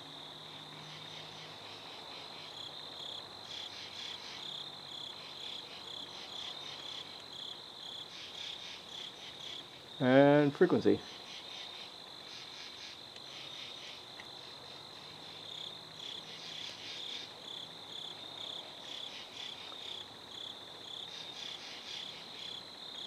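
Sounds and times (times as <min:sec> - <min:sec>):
crickets trilling: 0:00.0 - 0:23.0
insects chirping: 0:00.0 - 0:23.0.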